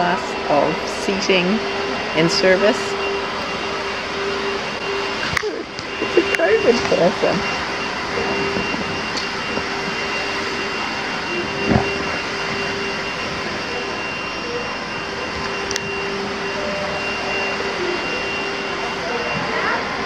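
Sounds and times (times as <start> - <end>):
blower machine drone: 0.0 - 20.0
faint high whine: 0.0 - 20.0.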